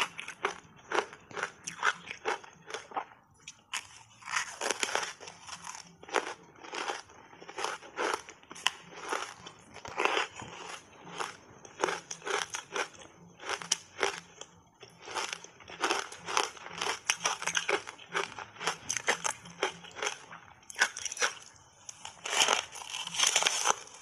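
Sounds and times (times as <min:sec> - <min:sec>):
crunching ice chewing: 0:00.0 - 0:24.0.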